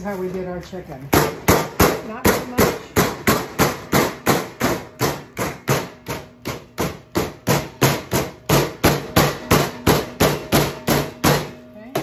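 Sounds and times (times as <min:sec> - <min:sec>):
meat mallet pounding: 0:01.1 - 0:12.0.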